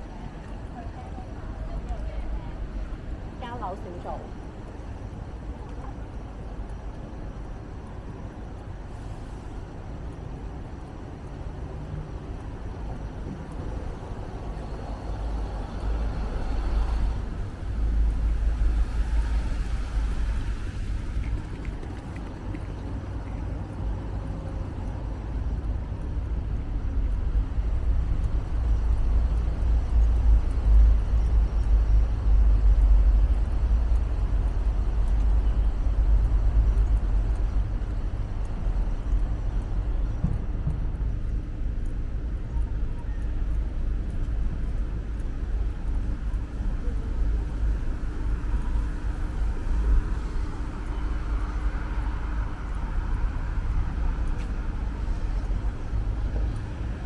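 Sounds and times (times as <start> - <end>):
low rumble of city traffic: 0.0 - 57.0.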